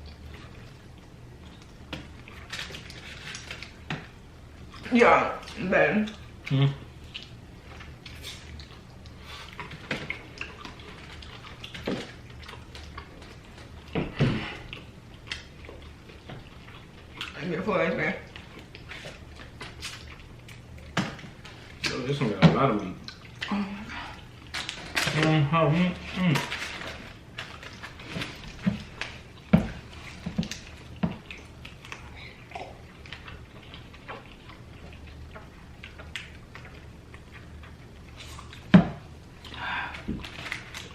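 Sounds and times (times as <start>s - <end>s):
chewing and mouth smacking: 0.0s - 22.2s, 22.8s - 25.4s, 26.0s - 40.9s.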